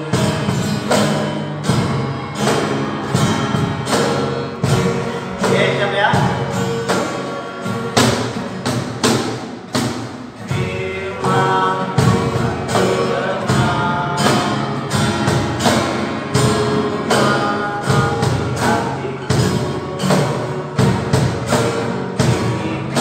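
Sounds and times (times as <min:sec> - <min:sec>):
acoustic guitars strumming: 0:00.0 - 0:23.0
young voices singing: 0:00.0 - 0:23.0.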